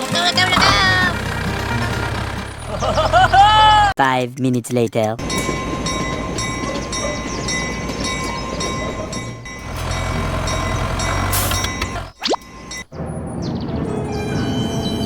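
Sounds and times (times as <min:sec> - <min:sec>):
train rumbling on rails: 0:00.2 - 0:03.9, 0:05.2 - 0:15.0.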